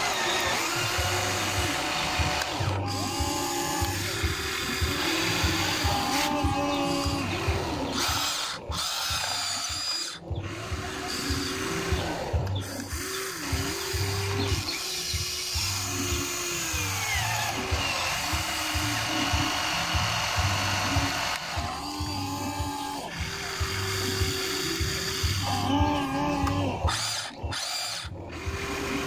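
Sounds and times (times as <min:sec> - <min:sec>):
toy excavator motors whining: 0:00.0 - 0:29.0.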